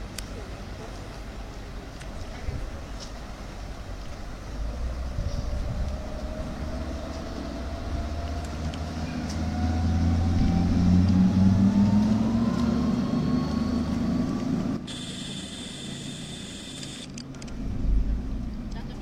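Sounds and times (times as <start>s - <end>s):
vehicle engine running: 3.5s - 19.0s.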